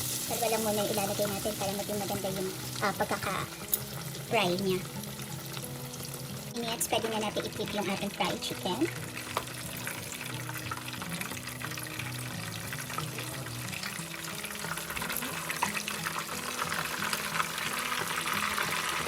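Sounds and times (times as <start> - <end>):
chicken deep-frying in hot oil: 0.0 - 19.0
soft background music: 0.0 - 19.0.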